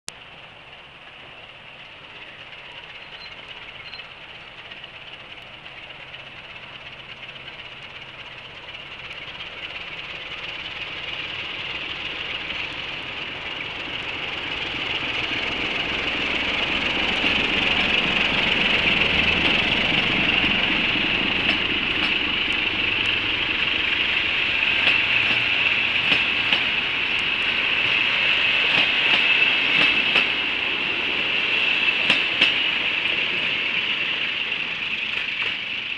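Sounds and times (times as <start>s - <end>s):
passenger train passing: 0.1s - 35.9s
wheels clicking over rail joints: 1.1s - 35.9s.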